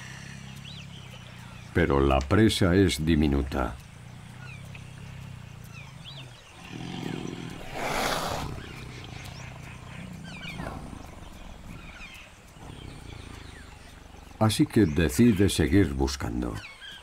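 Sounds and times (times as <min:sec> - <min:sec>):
tiger growling: 0:00.0 - 0:16.7
small birds chirping: 0:00.0 - 0:17.0.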